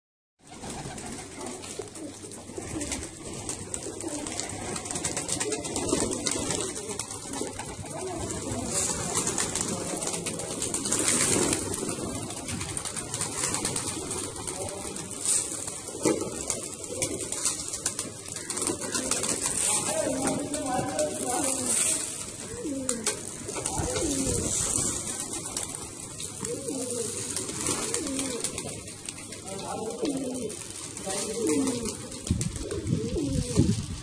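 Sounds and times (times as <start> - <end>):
pigeons cooing: 0.4 - 33.9.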